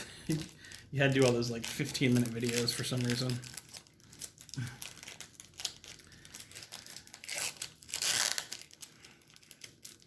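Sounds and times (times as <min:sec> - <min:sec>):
card pack wrapper crinkling: 0:00.0 - 0:10.0.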